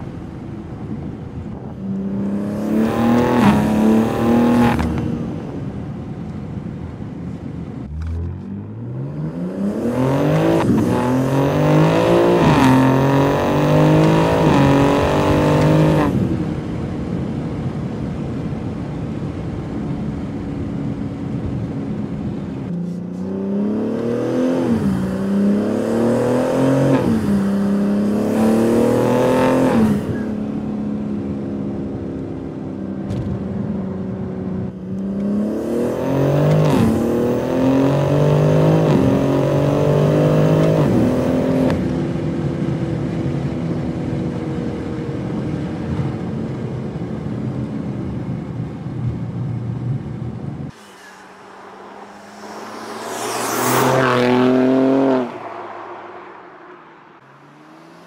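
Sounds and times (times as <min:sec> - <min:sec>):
car engine accelerating hard: 0:00.0 - 0:05.9, 0:07.8 - 0:17.4, 0:19.9 - 0:48.7, 0:50.4 - 0:58.0
car engine running steadily: 0:00.0 - 0:55.5.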